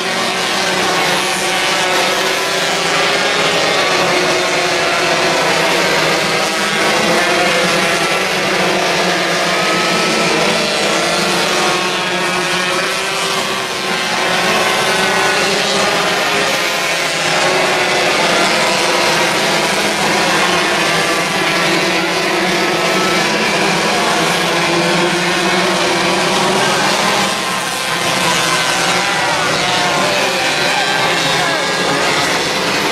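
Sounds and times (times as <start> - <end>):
racing car engines droning: 0.0 - 32.9.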